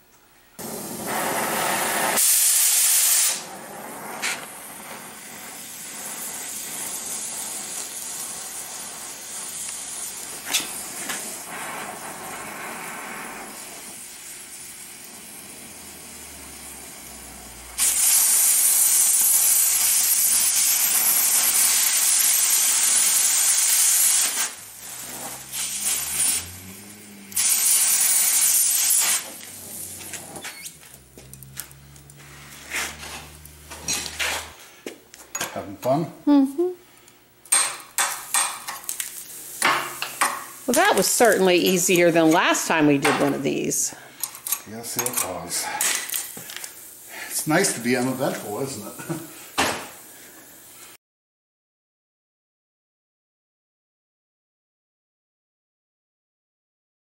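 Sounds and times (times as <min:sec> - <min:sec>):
cutting torch hissing: 0:00.6 - 0:34.9, 0:37.5 - 0:51.0.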